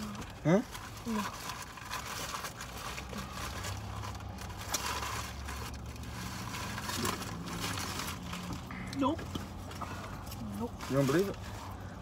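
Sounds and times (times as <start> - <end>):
food packaging rustling and crackling: 0.0 - 12.0
low steady car cabin hum: 0.0 - 12.0.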